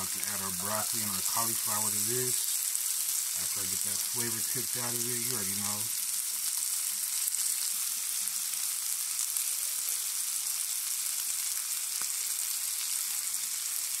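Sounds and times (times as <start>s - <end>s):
bacon sizzling in a skillet: 0.0s - 14.0s.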